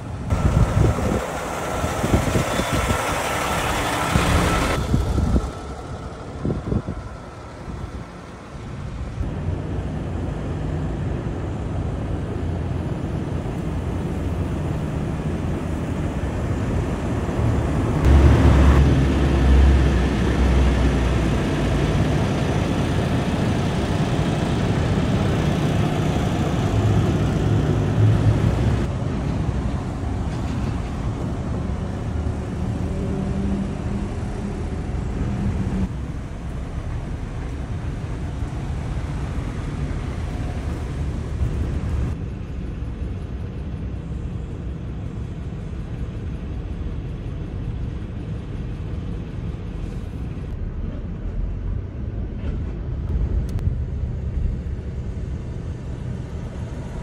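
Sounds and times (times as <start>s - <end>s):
diesel truck engines idling: 0.0s - 57.0s
traffic noise: 0.0s - 57.0s.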